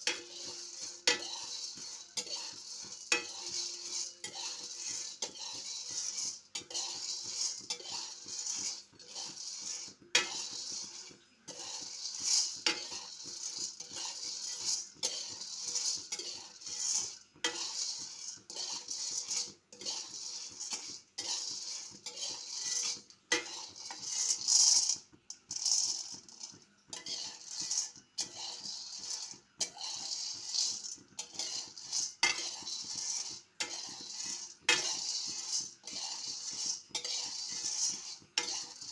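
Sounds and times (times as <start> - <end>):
coffee beans rattling on metal: 0.0 - 38.9
spatula scraping a wok: 0.0 - 38.9.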